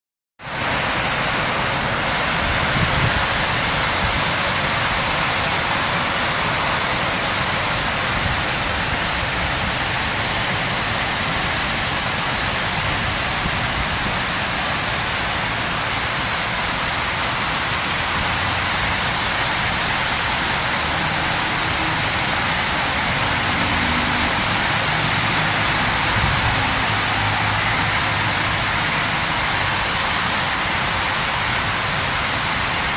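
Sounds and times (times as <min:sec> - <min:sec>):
heavy rain falling: 0:00.4 - 0:32.9.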